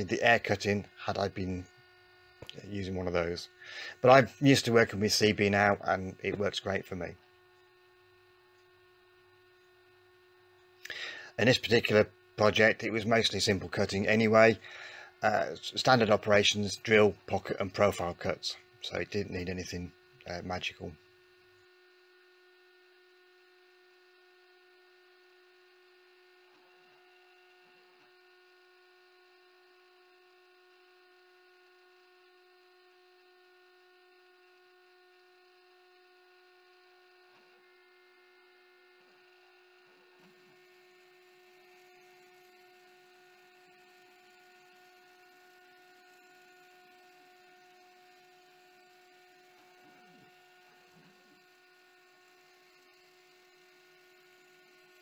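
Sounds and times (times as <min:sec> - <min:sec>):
faint router spindle hum: 0:00.0 - 0:55.0.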